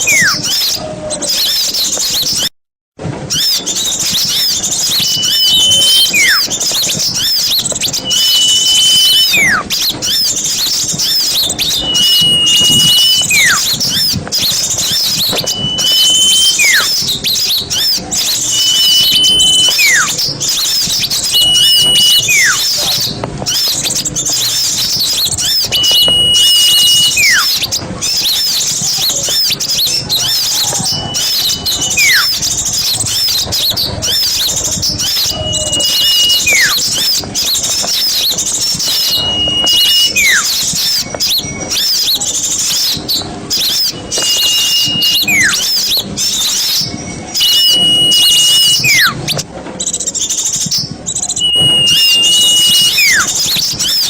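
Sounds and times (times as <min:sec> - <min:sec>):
bird whistle sweeping down: 0:00.0 - 0:02.5, 0:03.3 - 0:49.4, 0:51.3 - 0:54.0
songbirds twittering: 0:00.0 - 0:02.5, 0:03.2 - 0:54.0.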